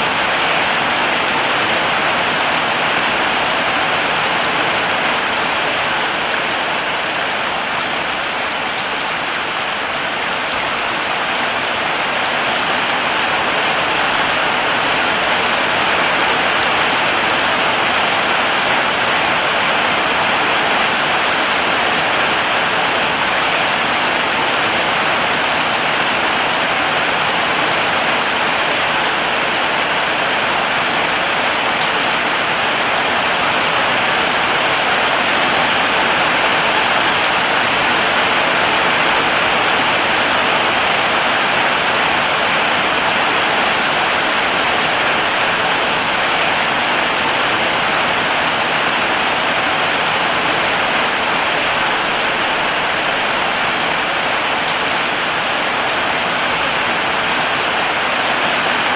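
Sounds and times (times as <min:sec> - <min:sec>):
heavy rain on foliage: 0:00.0 - 0:58.9.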